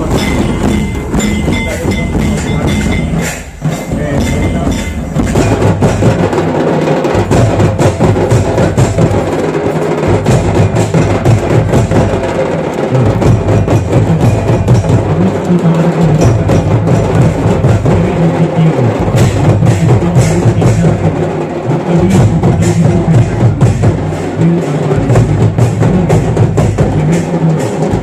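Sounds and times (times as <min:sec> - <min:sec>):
barrel drums: 0:00.0 - 0:28.0
group drumming on kettledrums: 0:00.0 - 0:28.0.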